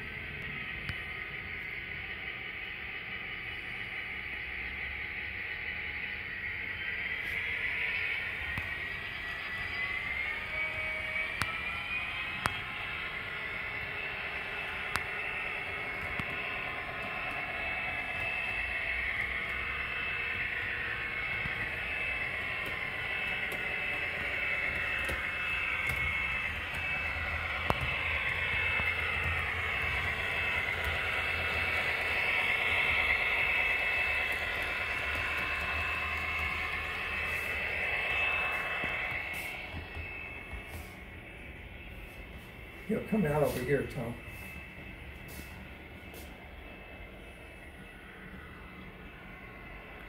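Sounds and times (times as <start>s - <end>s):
model train motor whine: 0.0s - 50.0s.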